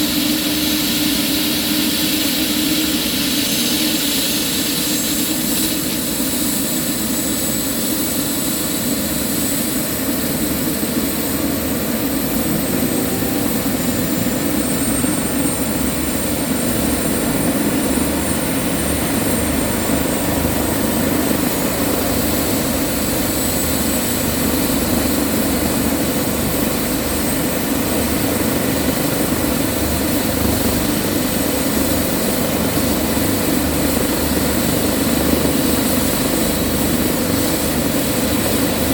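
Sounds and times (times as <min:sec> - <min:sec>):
helicopter rotor rumble: 0:00.0 - 0:38.9
helicopter turbine whine: 0:00.0 - 0:38.9.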